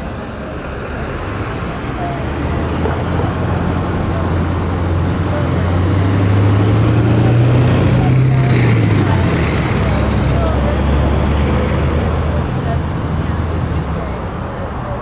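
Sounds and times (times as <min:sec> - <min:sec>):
faint voices: 0:00.0 - 0:15.0
large vehicle engine hum: 0:00.0 - 0:15.0.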